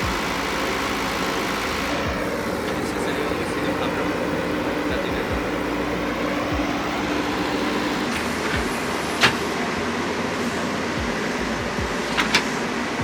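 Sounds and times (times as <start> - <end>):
backhoe loader engine running: 0.0 - 13.0.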